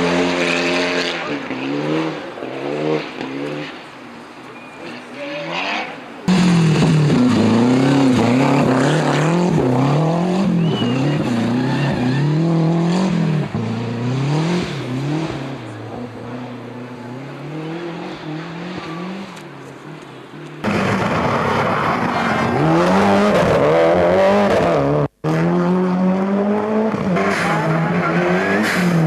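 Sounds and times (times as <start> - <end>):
rally car engine revving: 0.0 - 3.8, 5.3 - 29.0.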